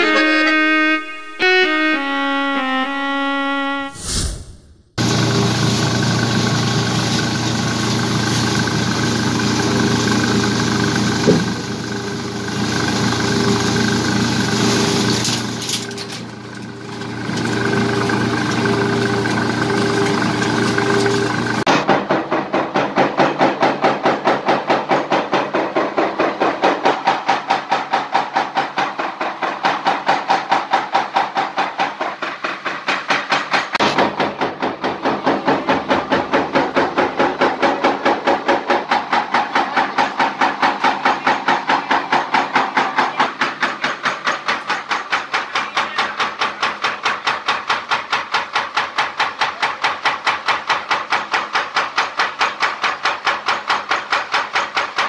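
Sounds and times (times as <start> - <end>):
briquette press ram knocking: 6.3 - 55.0.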